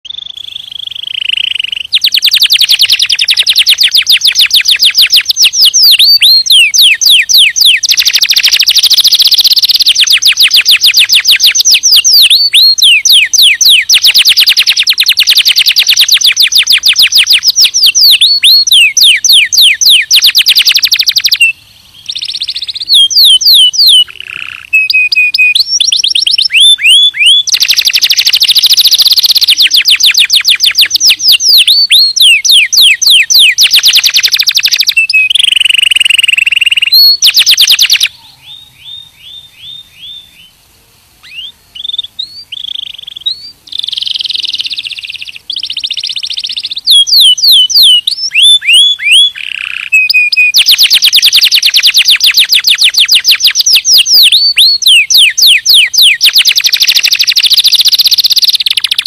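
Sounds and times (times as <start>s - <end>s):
canary singing trills: 0.1s - 40.6s, 41.2s - 59.0s.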